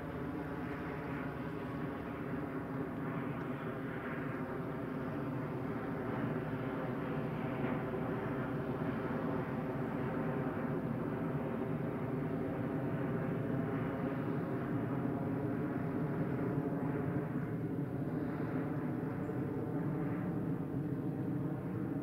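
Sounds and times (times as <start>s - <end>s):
steady engine drone: 0.0s - 22.0s.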